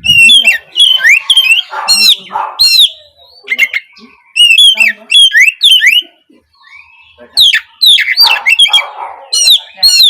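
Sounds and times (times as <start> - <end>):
bird singing whistled notes: 0.0 - 10.0.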